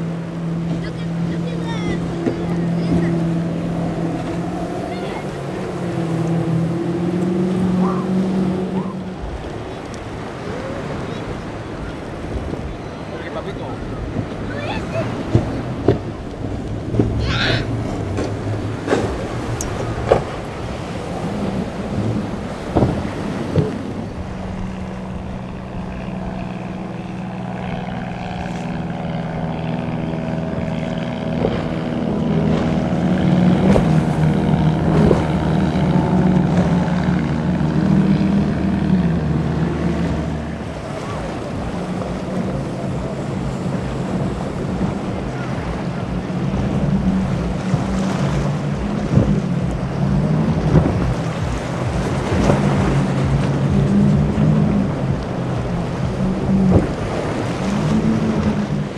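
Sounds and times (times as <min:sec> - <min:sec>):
outboard engines running: 0:00.0 - 0:58.9
wind: 0:00.0 - 0:58.9.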